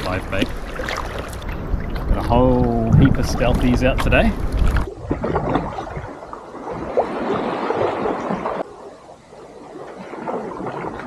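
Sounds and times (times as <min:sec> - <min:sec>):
water splashing around kayak: 0:00.0 - 0:11.0
wind on microphone: 0:00.0 - 0:11.0.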